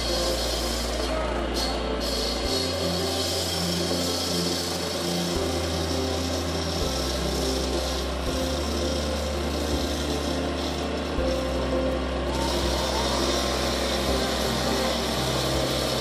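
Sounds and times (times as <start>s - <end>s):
asphalt saw cutting pavement: 0.0s - 16.0s.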